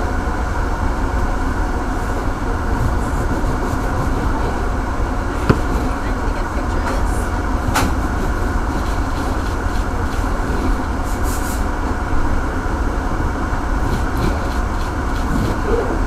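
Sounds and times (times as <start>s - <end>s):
kitchen machine rumble: 0.0s - 16.0s.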